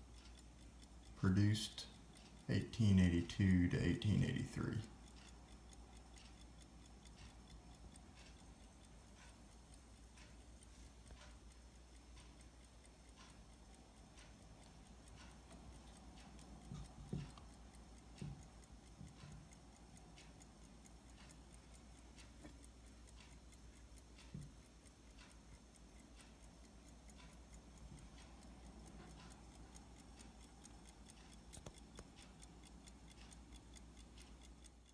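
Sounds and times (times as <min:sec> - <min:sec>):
pocket watch ticking: 0:00.0 - 0:34.9.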